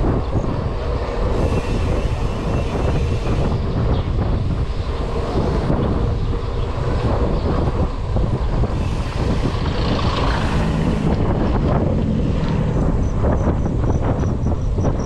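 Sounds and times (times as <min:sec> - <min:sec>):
vehicles passing: 0:00.0 - 0:15.0
wind buffeting microphone: 0:00.0 - 0:15.0.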